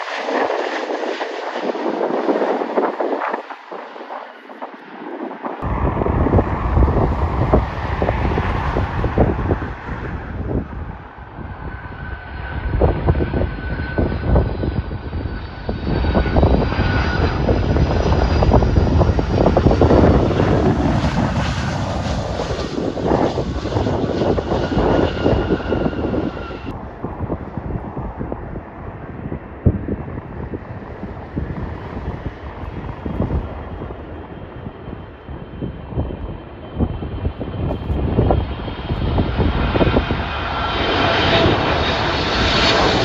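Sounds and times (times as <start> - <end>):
jet airliner engine rumble: 0.0 - 43.0
wind buffeting microphone: 0.0 - 43.0.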